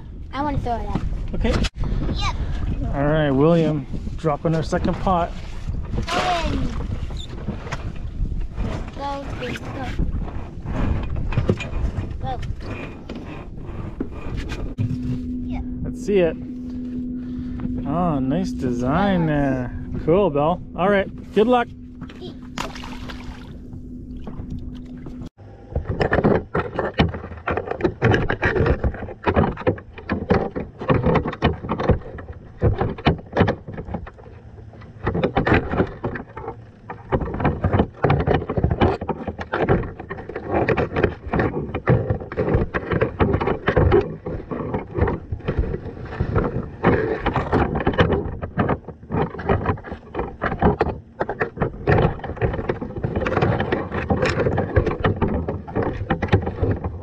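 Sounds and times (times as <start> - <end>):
knocks and clunks: 0.4 - 57.0.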